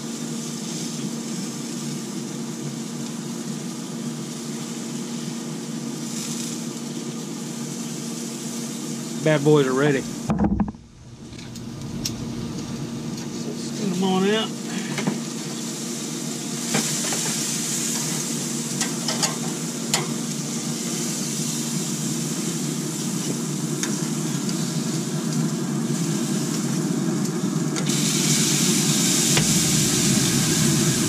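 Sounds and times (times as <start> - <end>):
food sizzling: 0.0 - 10.3, 11.0 - 31.0
grill humming: 0.0 - 31.0.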